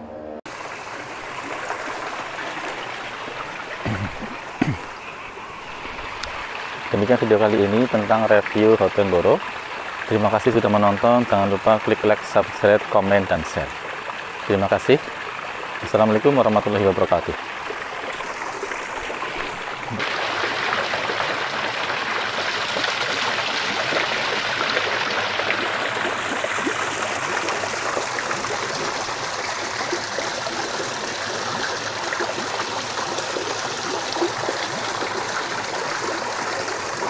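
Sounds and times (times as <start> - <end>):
waterfall splashing into pond: 0.5 - 37.0.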